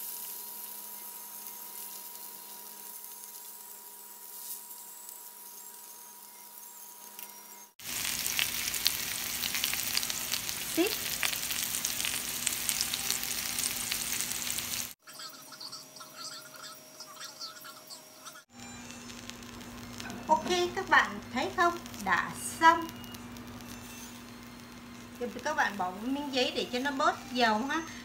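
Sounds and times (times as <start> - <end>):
eggplant sizzling on grill pan: 0.0 - 7.2, 7.8 - 15.0, 17.4 - 28.0.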